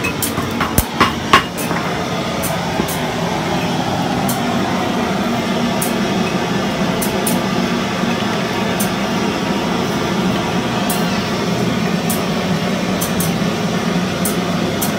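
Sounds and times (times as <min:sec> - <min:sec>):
workshop machinery drone: 0:00.0 - 0:14.9.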